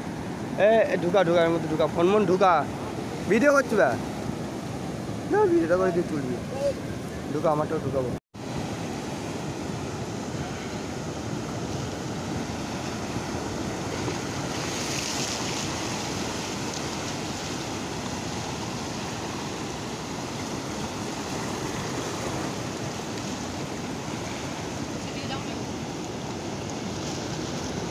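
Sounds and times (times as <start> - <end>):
sea waves washing up shore: 0.0 - 27.9.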